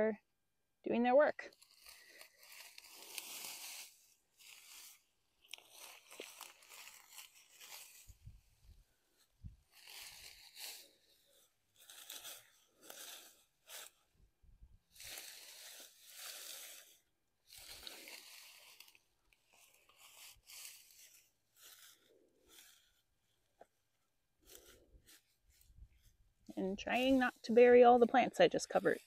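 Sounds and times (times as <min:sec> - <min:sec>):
straw rustling and crunching: 0:01.5 - 0:14.1, 0:14.8 - 0:29.0.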